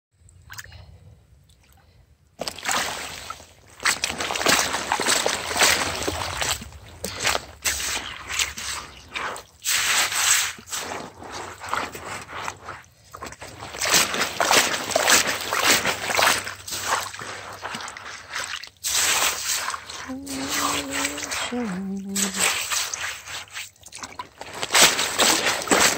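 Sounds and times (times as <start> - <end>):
hands sloshing in wet gravel: 2.4 - 25.9.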